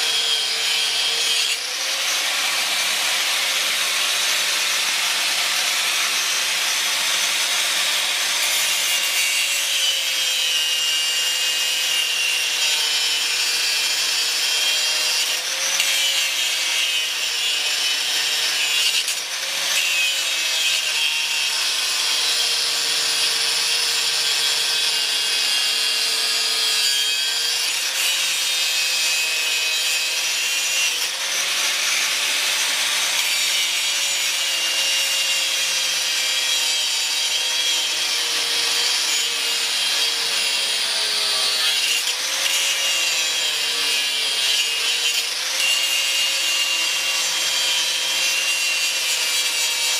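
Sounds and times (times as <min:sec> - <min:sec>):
angle grinder grinding steel: 0:00.0 - 0:49.9.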